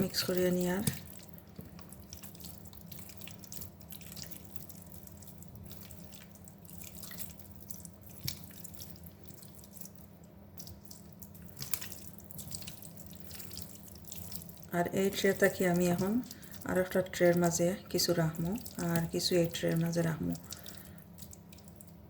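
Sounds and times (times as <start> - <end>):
steady low hum: 0.0 - 22.0
wet squelches of meat mixing: 0.0 - 22.0.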